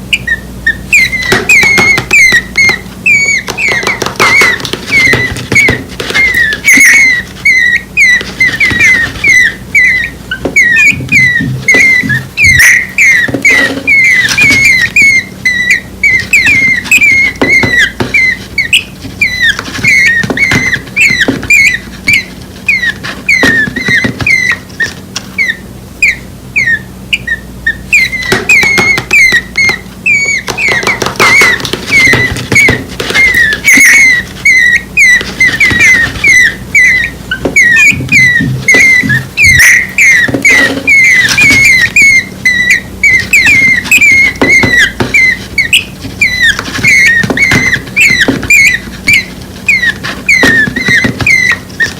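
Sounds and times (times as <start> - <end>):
nestling birds begging chirps: 0.0 - 51.9.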